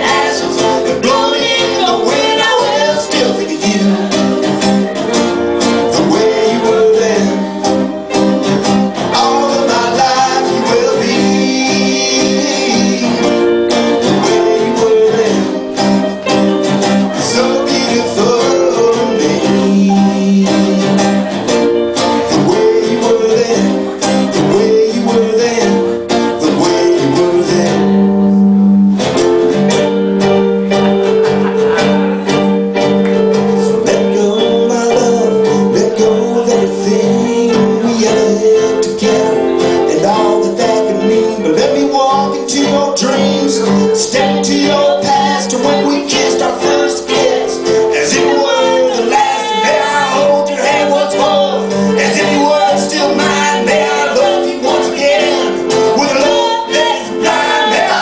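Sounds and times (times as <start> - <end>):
person singing: 0.0 - 5.0, 5.7 - 28.9, 29.6 - 58.0
guitar playing: 0.0 - 58.0.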